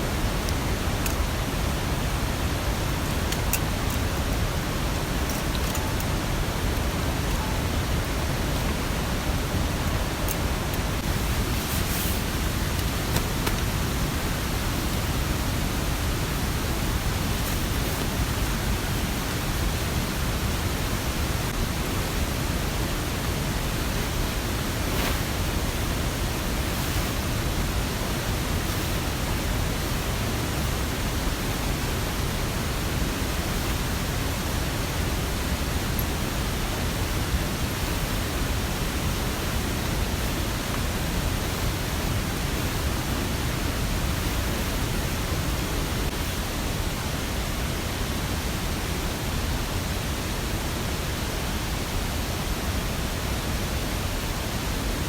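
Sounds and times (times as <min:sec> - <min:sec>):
mountain stream rushing: 0:00.0 - 0:55.0
rain: 0:00.0 - 0:55.0.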